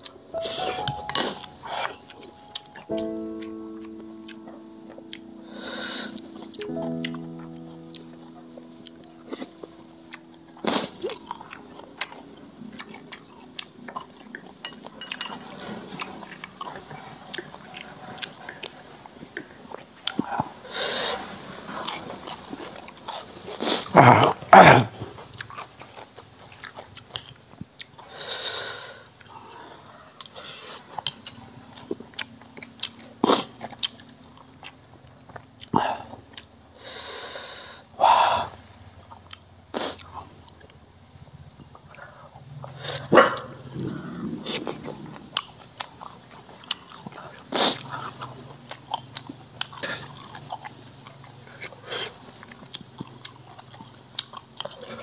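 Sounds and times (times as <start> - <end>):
person chewing crunchy food: 0.0 - 37.7, 38.9 - 55.0.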